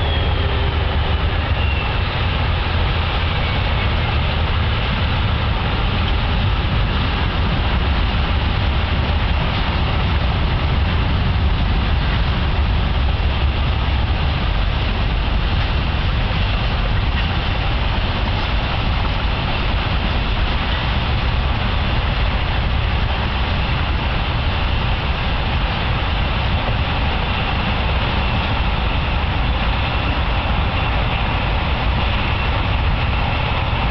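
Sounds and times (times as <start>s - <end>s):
freight train wheels rumbling on rail: 0.0s - 33.9s.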